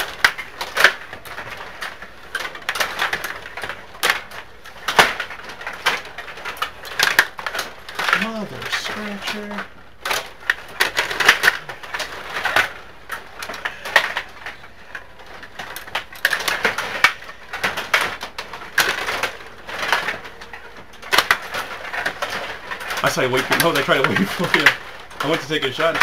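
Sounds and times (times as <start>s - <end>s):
table hockey pieces clattering: 0.0s - 26.0s.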